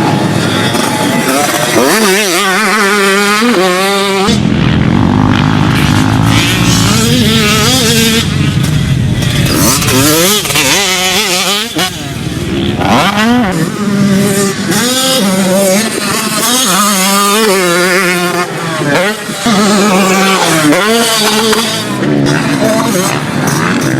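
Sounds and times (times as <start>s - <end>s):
two-stroke motocross bike revving: 0.0s - 23.9s.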